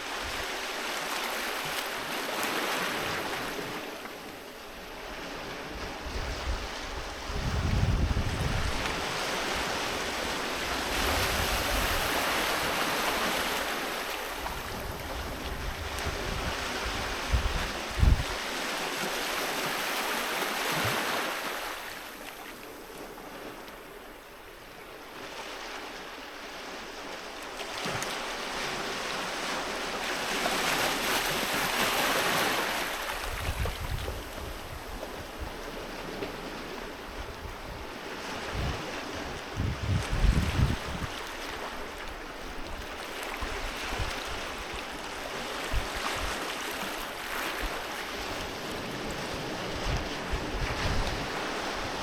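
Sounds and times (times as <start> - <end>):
sea waves breaking on beach: 0.0 - 24.2, 25.0 - 52.0.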